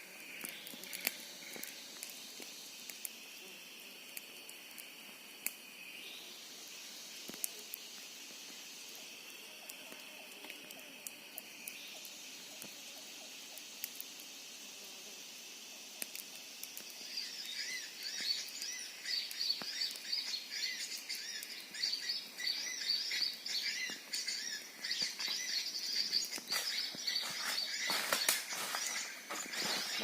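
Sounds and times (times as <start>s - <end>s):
insects buzzing drone: 0.0s - 30.0s.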